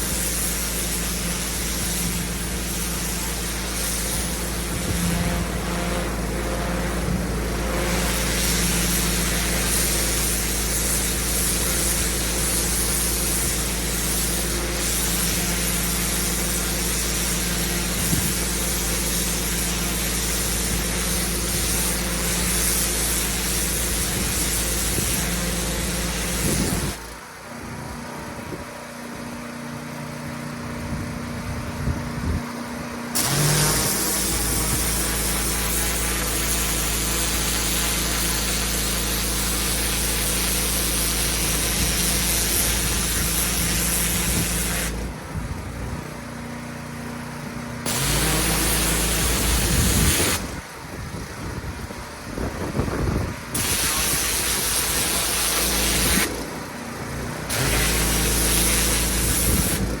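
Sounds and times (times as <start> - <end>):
high-pressure water spray hiss: 0.0 - 27.4, 33.1 - 45.4, 47.8 - 51.5, 52.4 - 60.0
pressure washer engine hum: 0.0 - 60.0.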